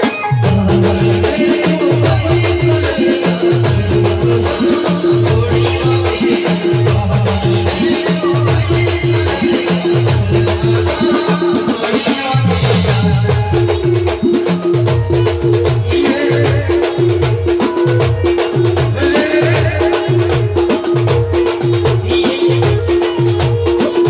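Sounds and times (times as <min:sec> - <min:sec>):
fast drum hits: 0:00.0 - 0:24.0
men singing into microphones: 0:00.0 - 0:24.0.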